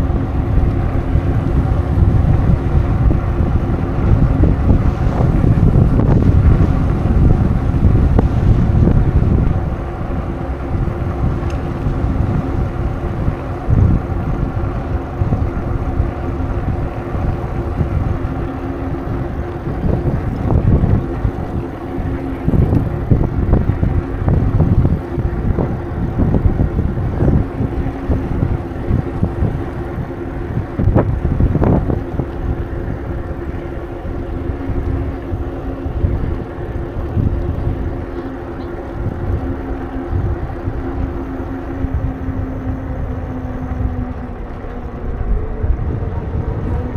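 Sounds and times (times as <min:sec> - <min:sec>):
steady hum: 0:00.0 - 0:46.9
wind buffeting microphone: 0:00.0 - 0:46.9.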